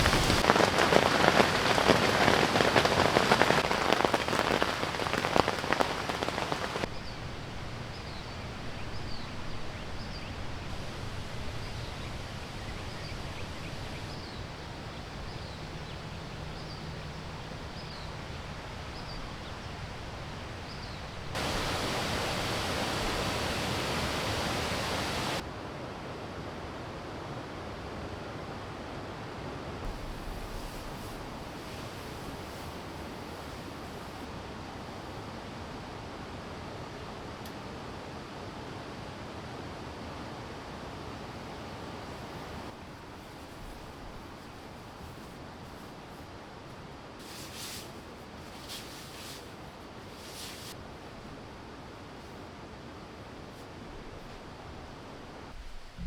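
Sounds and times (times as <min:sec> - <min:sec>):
rain hiss: 0:00.0 - 0:25.5, 0:29.8 - 0:56.0.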